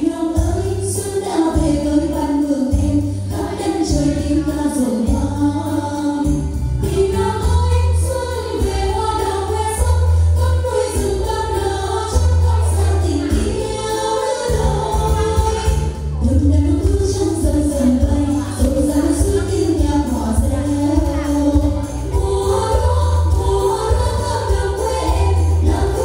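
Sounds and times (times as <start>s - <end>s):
voices singing: 0.0s - 26.0s.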